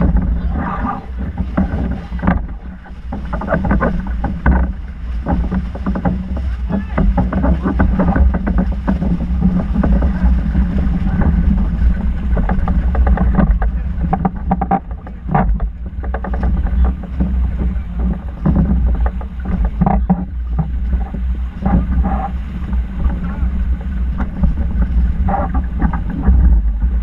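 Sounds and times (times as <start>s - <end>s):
short knocks: 0.0s - 22.2s
water rushing along hull: 0.0s - 27.0s
water splashes: 0.0s - 27.0s
wind buffeting microphone: 0.0s - 27.0s.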